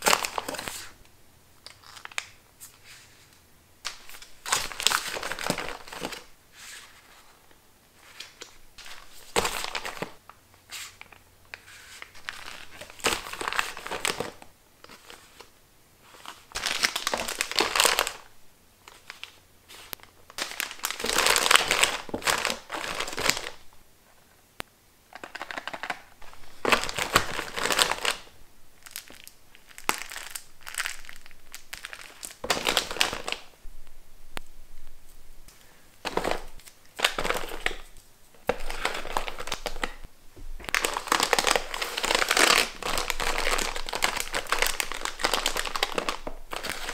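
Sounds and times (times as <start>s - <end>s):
plastic and foil sachets crinkling: 0.0s - 1.0s, 1.6s - 6.3s, 8.0s - 10.2s, 10.8s - 15.5s, 16.1s - 23.7s, 25.2s - 33.6s, 35.5s - 46.9s.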